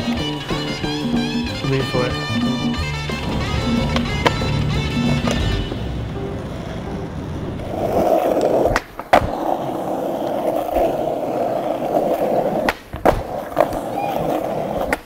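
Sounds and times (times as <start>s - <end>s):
skateboard wheels rolling on asphalt: 0.0s - 15.0s
skateboard landing clack: 2.7s - 15.0s.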